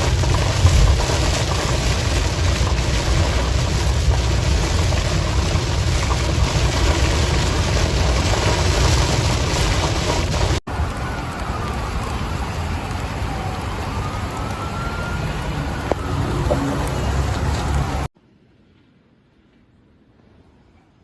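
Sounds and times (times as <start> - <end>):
gusting wind: 0.0 - 18.1
heavy rain: 0.0 - 18.1.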